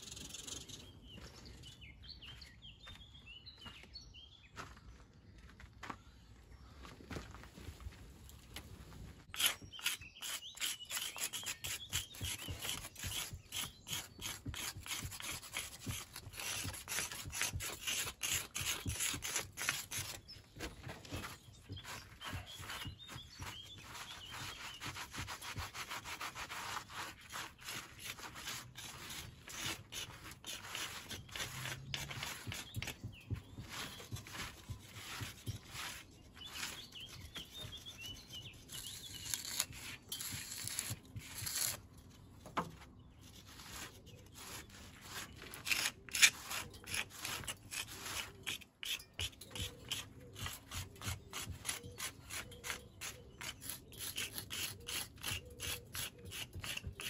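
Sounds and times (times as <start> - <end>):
hand tools scraping mortar: 9.2 - 41.9, 43.3 - 57.0.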